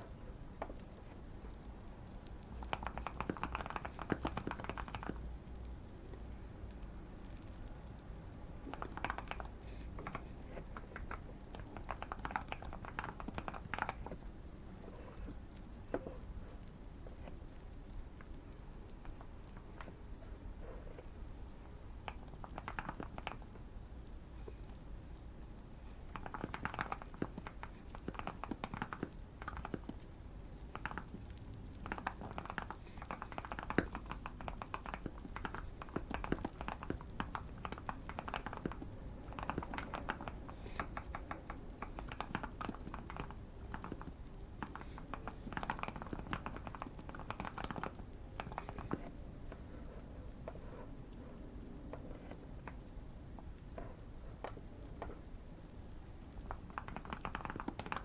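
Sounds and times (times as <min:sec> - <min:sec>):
mechanical keyboard typing: 0:00.0 - 0:14.2, 0:20.9 - 0:23.6, 0:26.0 - 0:30.1, 0:30.7 - 0:58.0
faint fireplace crackle: 0:00.0 - 0:58.0.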